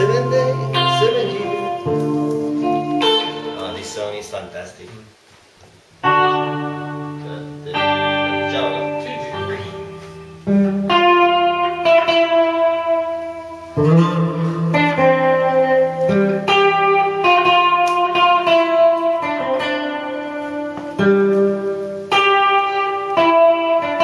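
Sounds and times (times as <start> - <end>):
electric guitar chords ringing: 0.0 - 4.7, 6.0 - 24.0.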